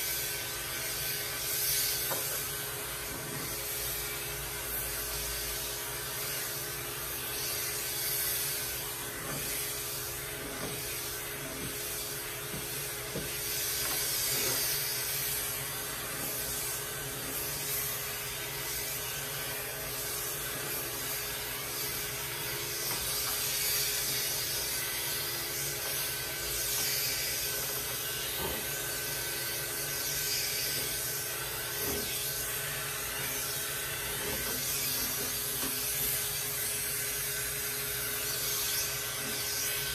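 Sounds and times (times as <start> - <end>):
electric clipper motor hum: 0.0 - 39.9
suction hiss: 0.0 - 39.9.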